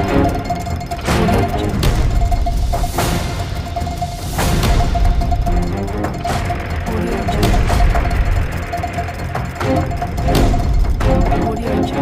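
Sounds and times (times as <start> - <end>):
background music with sustained tones: 0.0 - 12.0
percussion hits: 0.0 - 12.0.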